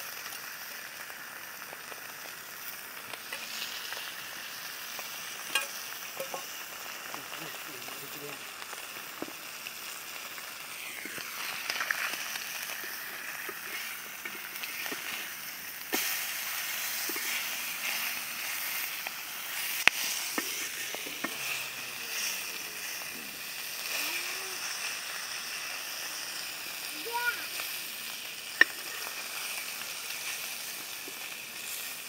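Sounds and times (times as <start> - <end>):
fish sizzling in oil: 0.0 - 32.0.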